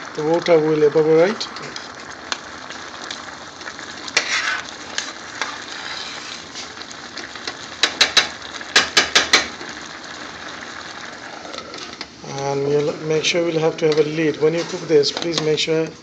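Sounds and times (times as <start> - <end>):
rice boiling and bubbling: 0.0 - 16.0.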